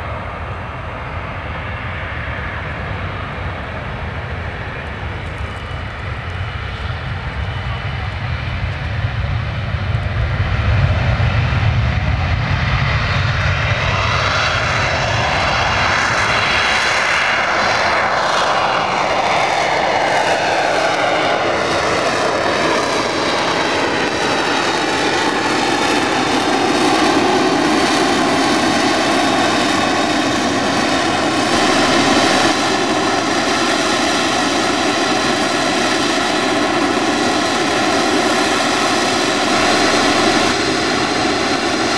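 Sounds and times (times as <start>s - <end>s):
aircraft engine drone: 0.0s - 41.9s.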